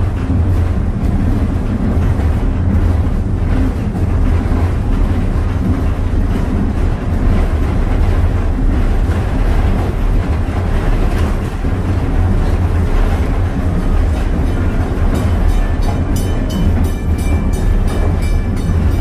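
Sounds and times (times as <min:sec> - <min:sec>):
constant rattle: 0:00.0 - 0:19.0
train rumbling: 0:00.0 - 0:19.0.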